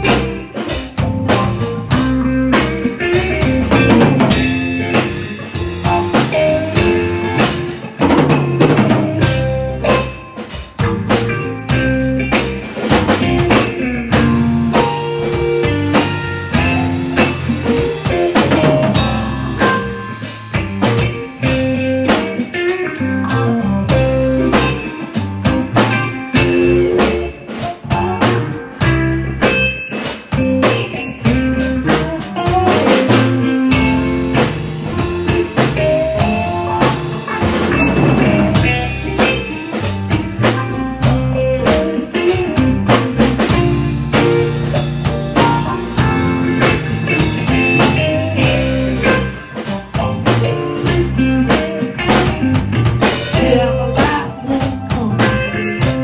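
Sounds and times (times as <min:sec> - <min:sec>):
blues band music: 0:00.0 - 0:56.0
drum kit with rimshots: 0:00.0 - 0:56.0.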